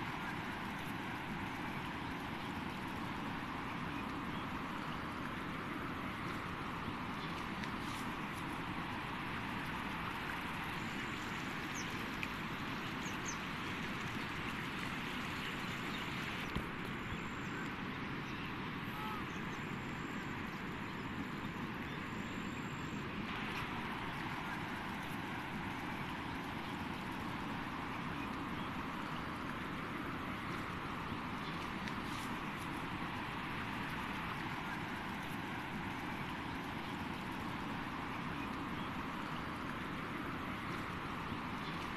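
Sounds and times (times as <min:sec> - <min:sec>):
floodwater rushing: 0:00.0 - 0:41.9.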